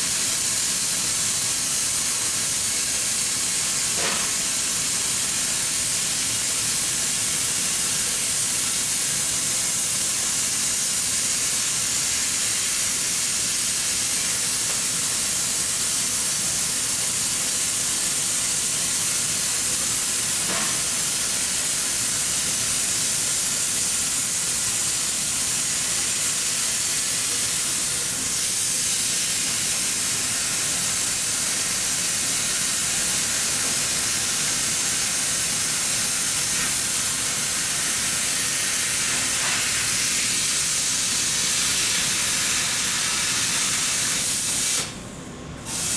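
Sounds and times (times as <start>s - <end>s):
welding hiss: 0.0s - 45.0s, 45.6s - 45.9s.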